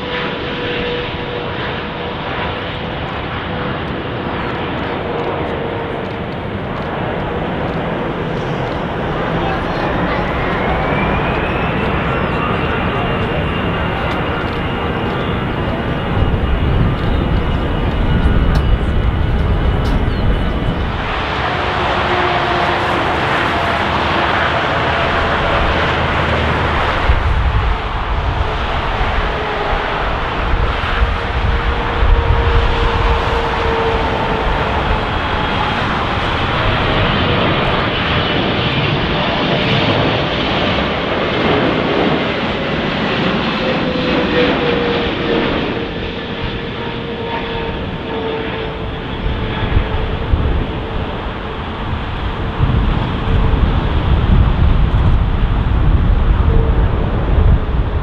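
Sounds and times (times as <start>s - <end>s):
jet engines passing close: 0.0s - 58.0s.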